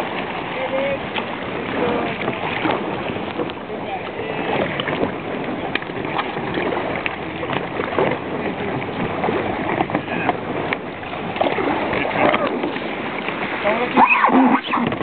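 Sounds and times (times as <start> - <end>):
muffled rushing river water: 0.0 - 15.0.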